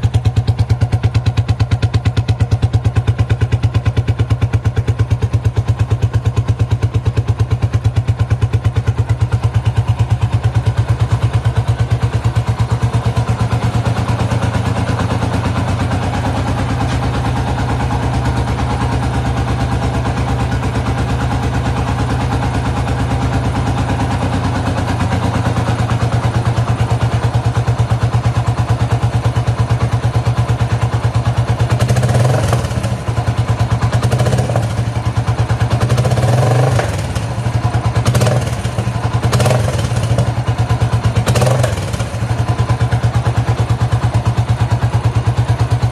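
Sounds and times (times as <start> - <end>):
motorcycle engine idling: 0.0 - 45.9.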